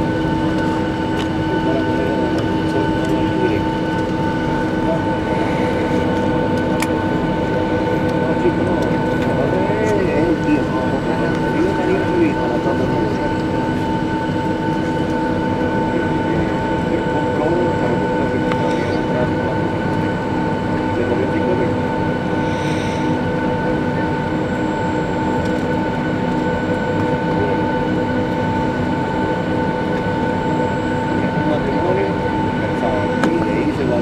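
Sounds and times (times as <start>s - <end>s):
aircraft cabin engine whine: 0.0s - 34.0s
constant engine rumble: 0.0s - 34.0s.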